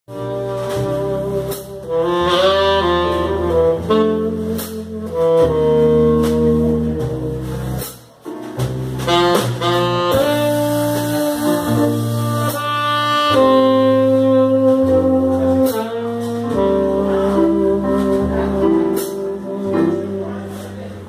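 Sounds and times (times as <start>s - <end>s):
live jazz band: 0.1s - 21.0s
saxophone melody: 0.1s - 21.0s
walking double bass: 0.1s - 21.0s.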